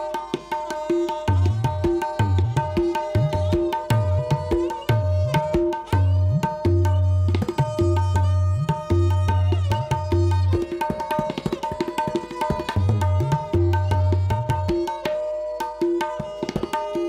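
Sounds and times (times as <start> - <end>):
tabla ringing strokes: 0.0 - 17.0.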